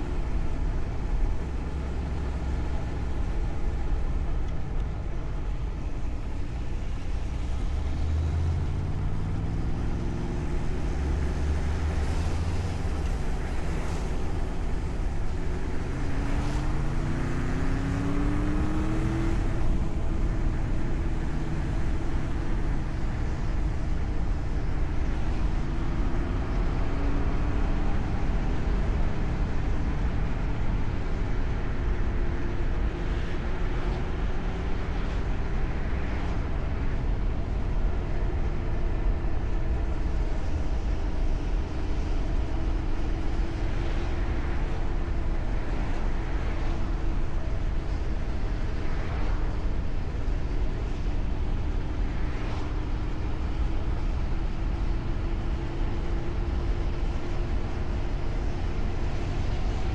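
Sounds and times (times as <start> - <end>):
car engine drone: 0.0 - 59.9
tyre and road noise: 0.0 - 59.9.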